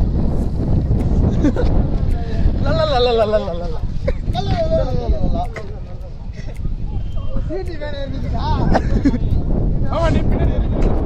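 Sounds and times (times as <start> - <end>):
wind buffeting microphone: 0.0 - 11.0
faint voices: 1.8 - 11.0.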